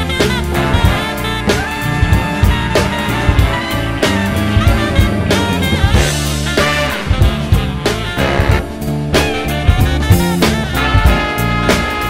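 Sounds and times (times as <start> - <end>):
jazzy swing music: 0.0 - 12.0.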